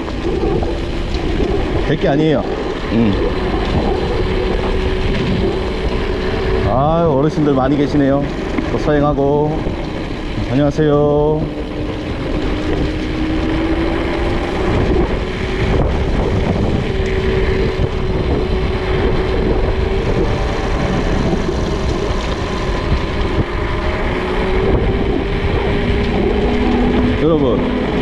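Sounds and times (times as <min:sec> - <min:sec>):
electric bike motor hum: 0:00.0 - 0:28.0
wind rumble on microphone: 0:00.0 - 0:28.0.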